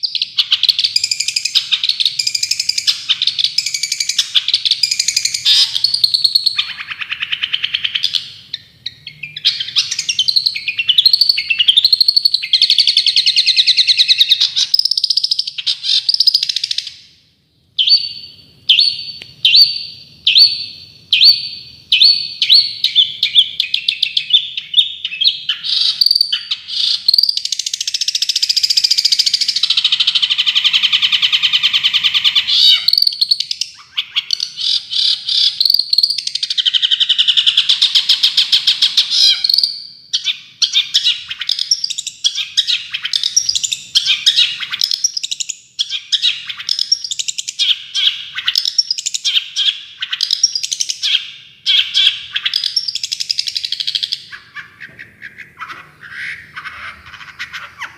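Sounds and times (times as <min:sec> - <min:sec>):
songbird chattering song: 0:00.0 - 0:17.1, 0:17.7 - 0:57.9.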